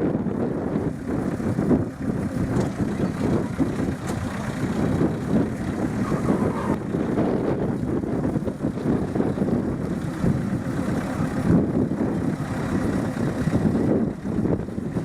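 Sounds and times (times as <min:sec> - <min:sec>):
miniature train rumbling: 0:00.0 - 0:15.0.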